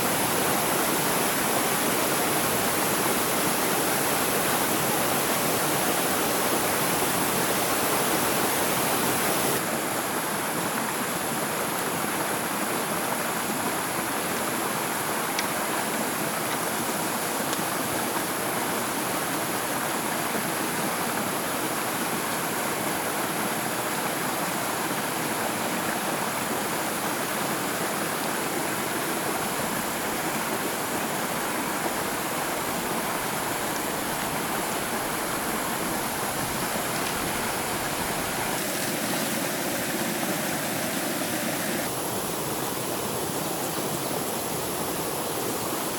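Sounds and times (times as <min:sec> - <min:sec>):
stream rushing: 0:00.0 - 0:45.9.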